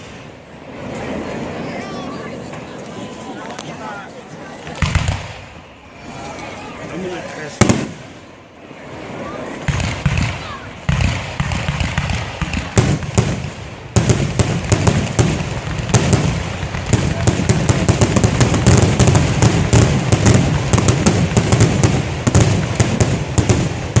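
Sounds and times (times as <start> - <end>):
fireworks crackling: 0.0 - 24.0.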